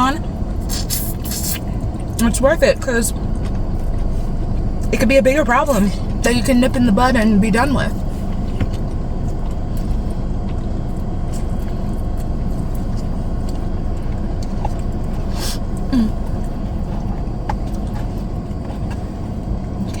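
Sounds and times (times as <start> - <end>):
car interior engine rumble: 0.0 - 20.0.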